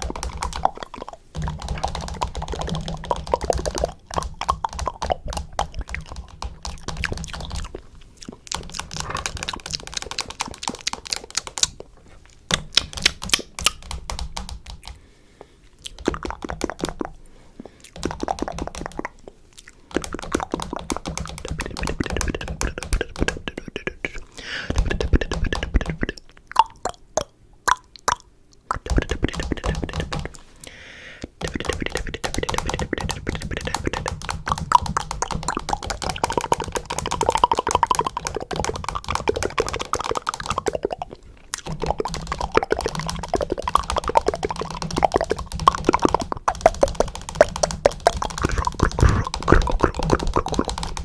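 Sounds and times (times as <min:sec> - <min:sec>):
rapid clicking and popping: 0:00.0 - 0:51.0.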